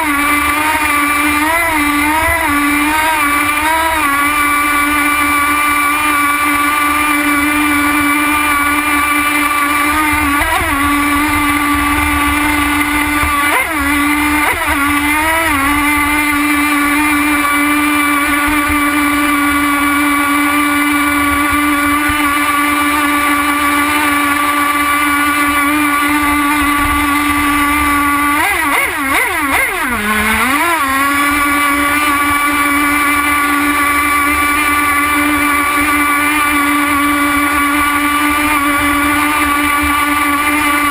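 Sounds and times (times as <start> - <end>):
model boat engine whining: 0.0 - 40.9.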